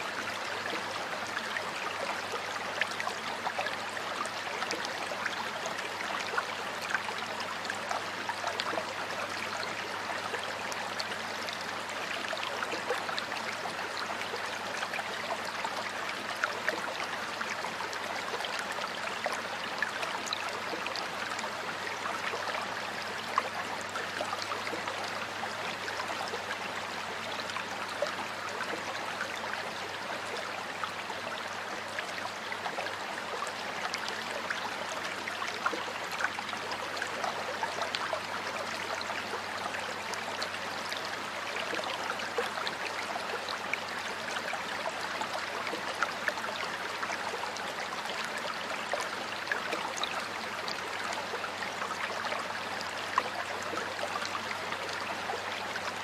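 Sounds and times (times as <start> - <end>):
small water splashes and trickles: 0.0 - 56.0
stream water rushing: 0.0 - 56.0.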